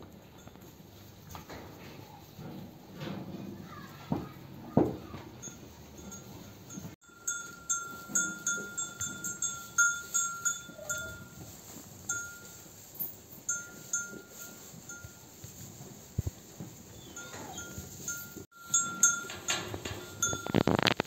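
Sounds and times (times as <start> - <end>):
livestock bell clinking: 0.1 - 2.6, 5.0 - 21.0.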